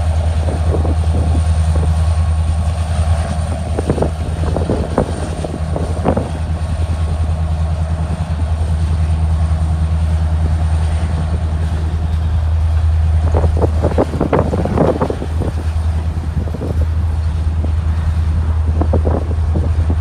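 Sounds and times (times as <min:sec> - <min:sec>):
diesel locomotive drone: 0:00.0 - 0:20.0
freight cars rumbling: 0:00.0 - 0:20.0.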